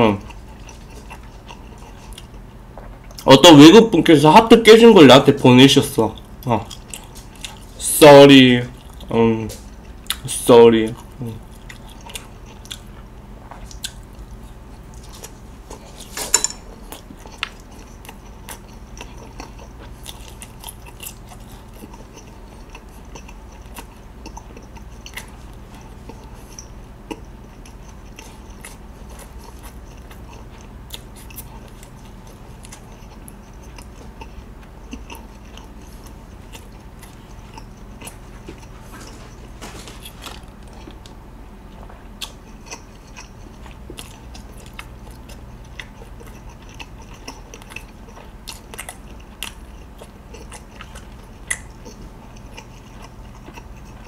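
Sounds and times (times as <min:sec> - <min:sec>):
chewing and wet mouth sounds: 0:00.0 - 0:03.4, 0:06.0 - 0:07.8, 0:08.7 - 0:54.0.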